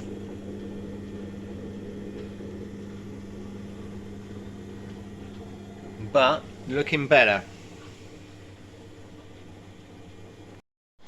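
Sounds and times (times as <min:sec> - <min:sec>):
washing machine humming: 0:00.0 - 0:10.6.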